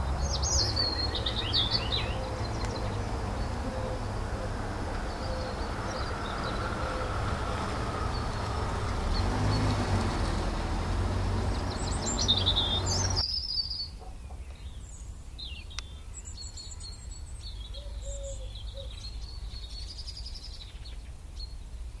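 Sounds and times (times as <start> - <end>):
outdoor background rumble and hiss: 0.0 - 22.0
small birds chirping: 0.0 - 22.0.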